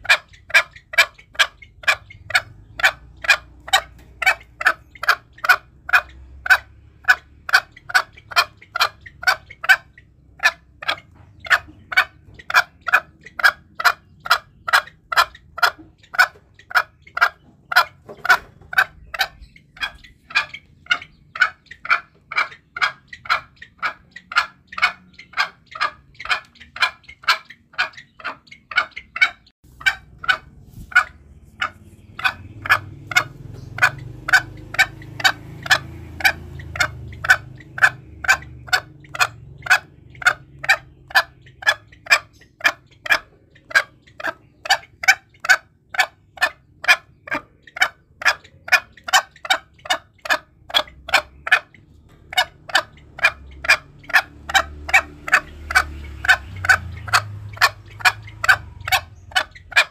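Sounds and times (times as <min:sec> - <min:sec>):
junglefowl calling: 0:00.0 - 0:59.9.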